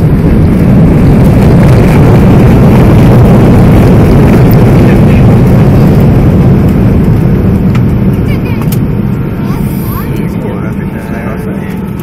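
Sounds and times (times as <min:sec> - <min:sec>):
jet engine and landing roll rumble: 0:00.0 - 0:12.0.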